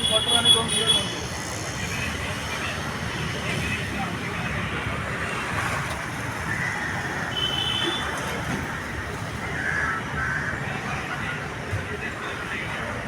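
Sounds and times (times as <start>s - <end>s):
vehicle and street rumble: 0.0s - 13.0s.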